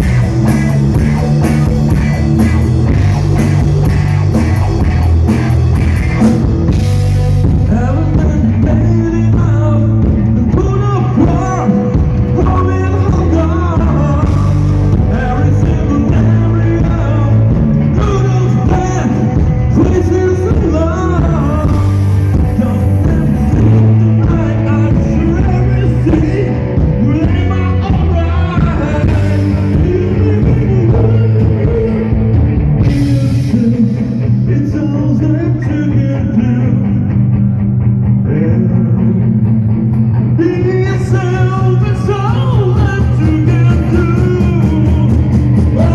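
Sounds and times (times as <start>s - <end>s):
rock music with sustained bass: 0.0s - 45.9s
person singing: 6.1s - 37.3s, 38.2s - 45.9s.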